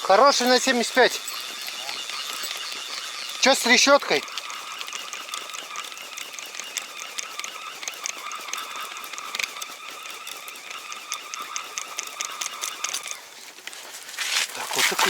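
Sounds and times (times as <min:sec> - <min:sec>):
reel ratchet clicking rapidly: 0:00.0 - 0:15.0
steady whine: 0:00.0 - 0:15.0.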